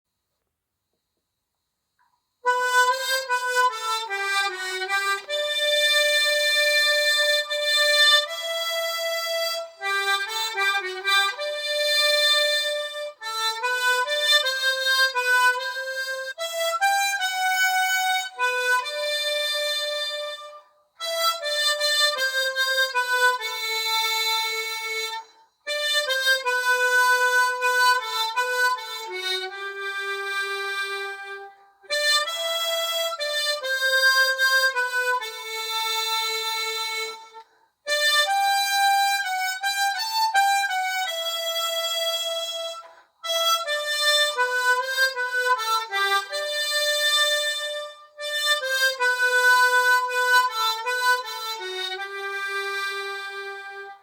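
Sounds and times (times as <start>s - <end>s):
harmonica slow melody: 2.4s - 54.0s.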